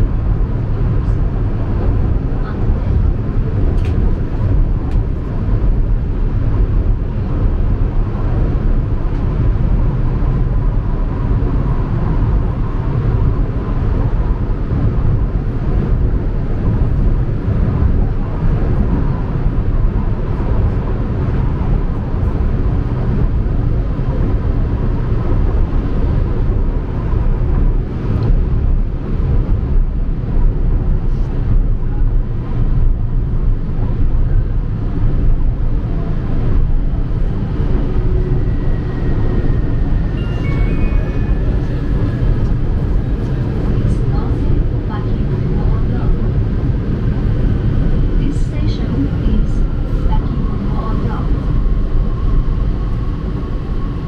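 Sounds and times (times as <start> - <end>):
metro train rumbling: 0.0 - 54.0.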